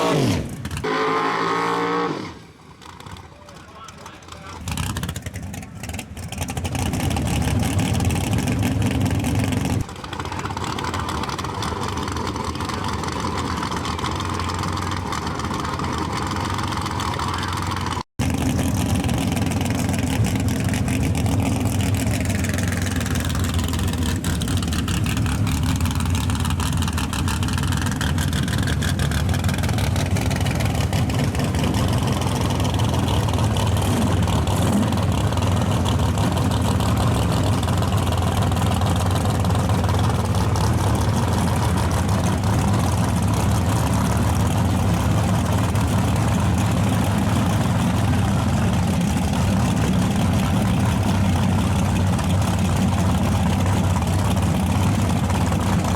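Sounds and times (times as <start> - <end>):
race car engines running: 0.0 - 55.9.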